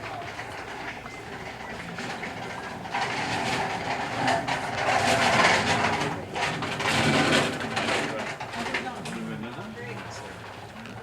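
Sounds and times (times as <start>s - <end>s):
rolling clattering noise: 0.0s - 11.0s.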